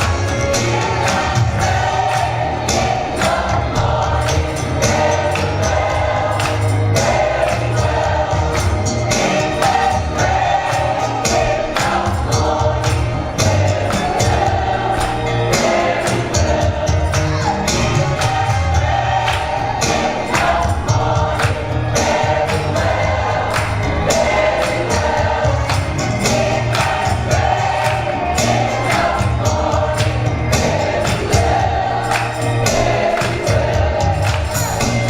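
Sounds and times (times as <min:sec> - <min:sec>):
band accompaniment: 0:00.0 - 0:35.0
gospel choir singing: 0:00.0 - 0:35.0
tambourine or drum beat: 0:00.0 - 0:35.0.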